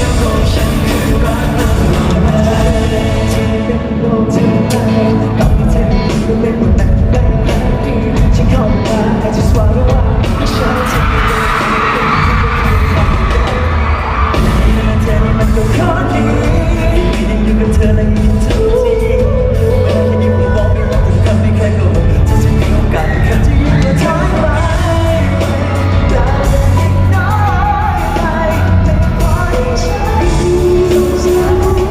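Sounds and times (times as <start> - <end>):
live band playing pop-rock: 0.0 - 31.9
person singing: 0.0 - 31.9.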